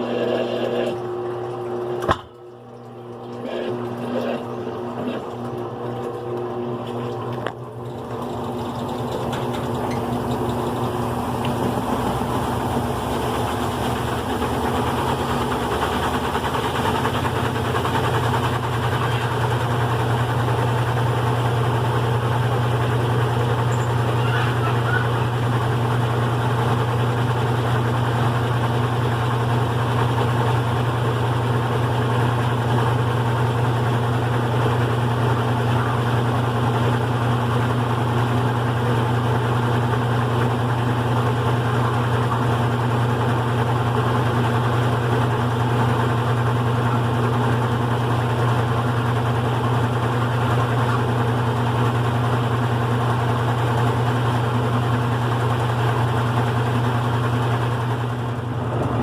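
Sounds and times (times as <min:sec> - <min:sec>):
washing machine motor humming: 0:00.0 - 0:59.0.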